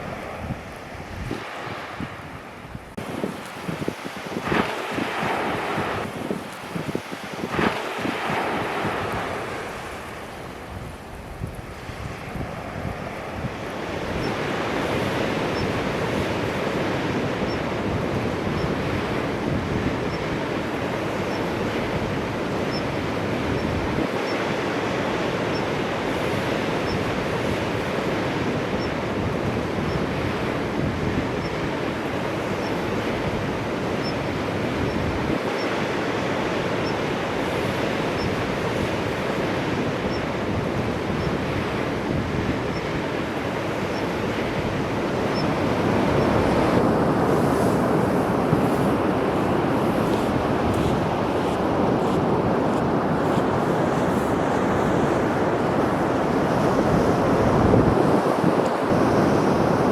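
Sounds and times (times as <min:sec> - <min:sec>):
sea surf washing onto shore: 0:00.0 - 0:59.9
wind: 0:00.0 - 0:59.9.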